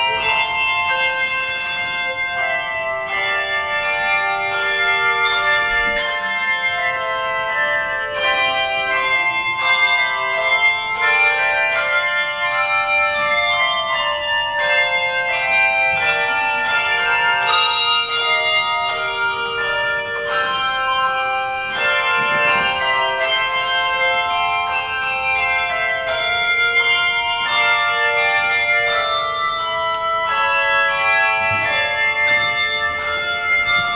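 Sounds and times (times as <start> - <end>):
handbell choir ringing: 0.0 - 33.9.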